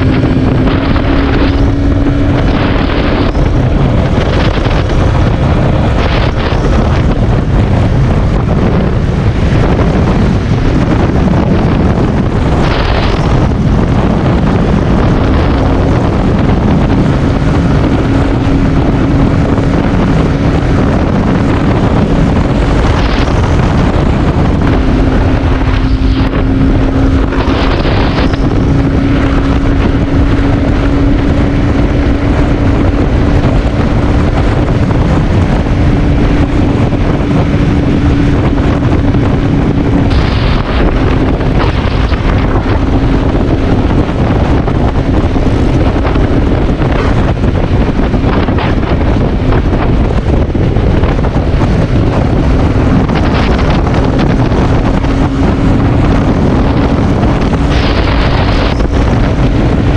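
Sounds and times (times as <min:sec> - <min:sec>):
heavy wind on microphone: 0:00.0 - 0:59.9
motorcycle engine drone: 0:00.0 - 0:59.9.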